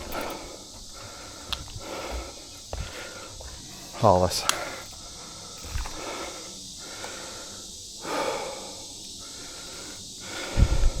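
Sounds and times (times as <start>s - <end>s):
person breathing: 0.0s - 11.0s
steady hiss: 0.0s - 11.0s.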